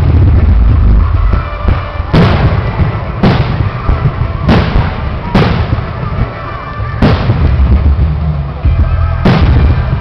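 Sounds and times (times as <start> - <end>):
firework bangs: 0.0 - 10.0
low rumble: 0.0 - 10.0.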